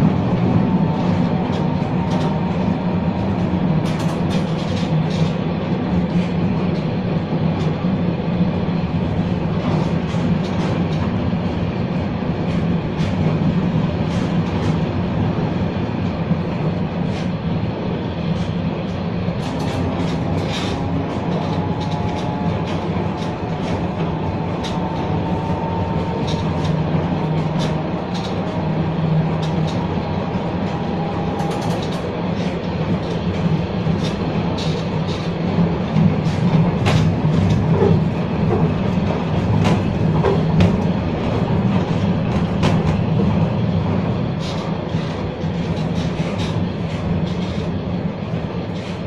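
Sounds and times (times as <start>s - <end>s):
tram rumbling: 0.0s - 49.0s
wheels clicking on rails: 0.0s - 49.0s.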